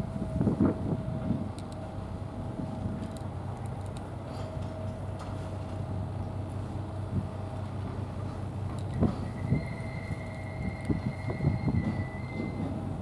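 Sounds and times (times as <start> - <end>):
engine idling hum: 0.0 - 13.0.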